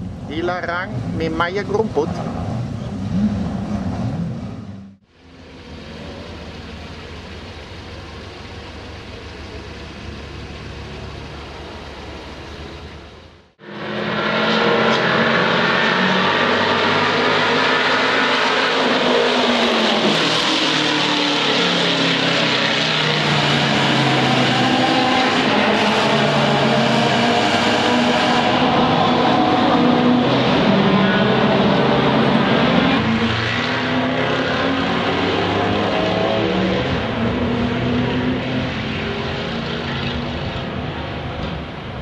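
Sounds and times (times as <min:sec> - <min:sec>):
race car engines revving: 0:00.0 - 0:42.0.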